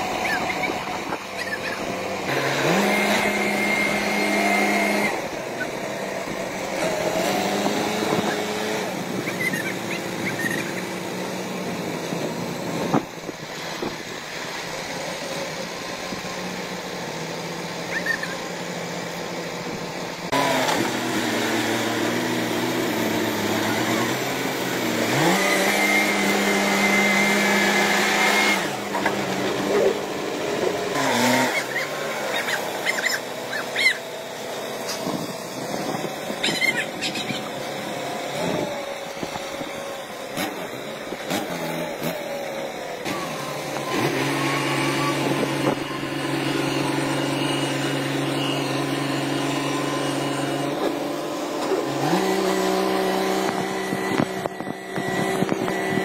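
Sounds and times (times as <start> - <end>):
tractor engines revving: 0.0 - 56.0.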